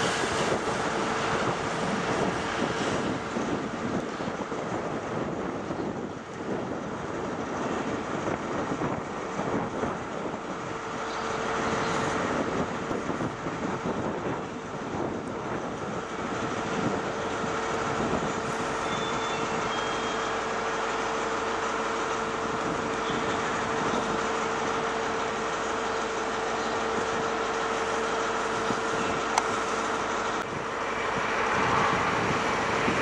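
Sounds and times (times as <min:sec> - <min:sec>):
diesel engine whine: 0:00.0 - 0:33.0
diesel train passing: 0:00.0 - 0:33.0.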